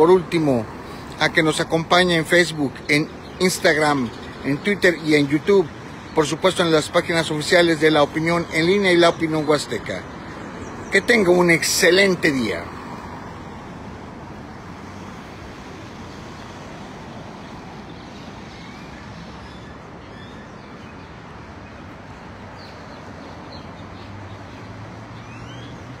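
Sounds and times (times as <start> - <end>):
passing vehicles hiss: 0.0 - 26.0.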